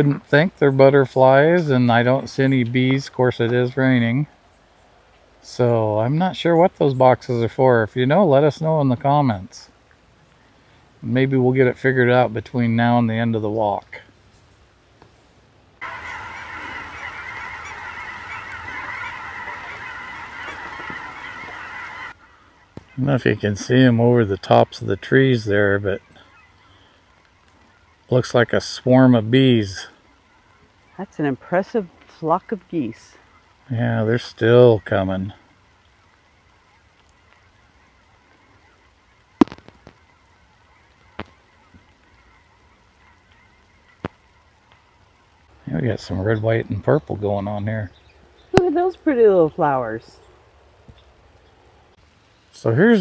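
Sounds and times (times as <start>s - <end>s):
geese honking: 0.0s - 14.1s, 15.8s - 52.0s, 52.6s - 53.0s.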